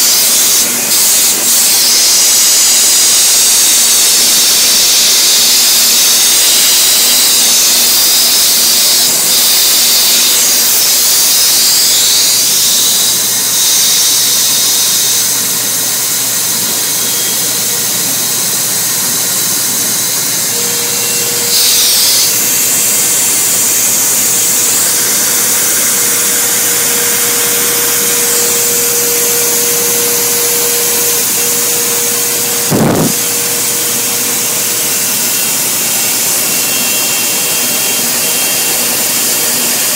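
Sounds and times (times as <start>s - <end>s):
router cutting wood: 0.0s - 39.9s
steady hum: 0.0s - 39.9s.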